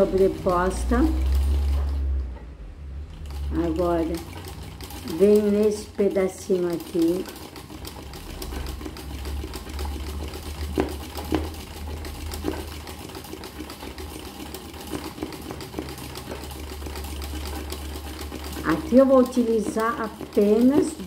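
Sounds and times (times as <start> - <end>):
sewing machine running: 0.0 - 2.4, 3.1 - 21.0.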